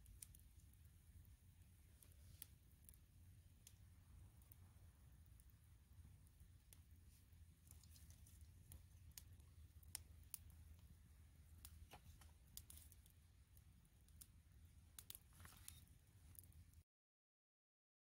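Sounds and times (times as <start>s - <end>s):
low steady rumble: 0.0s - 15.3s
campfire crackling: 0.0s - 16.8s.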